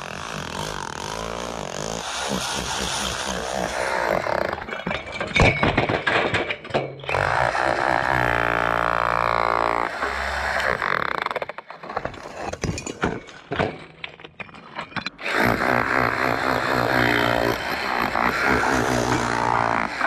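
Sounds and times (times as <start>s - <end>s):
rotary hammer chipping stone: 0.0s - 20.0s.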